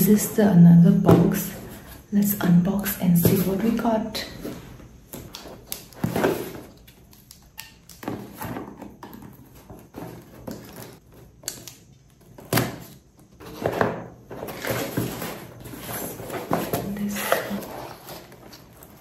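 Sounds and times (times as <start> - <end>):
cardboard and paper rustling: 0.0 - 7.3, 8.0 - 11.5, 12.1 - 19.0.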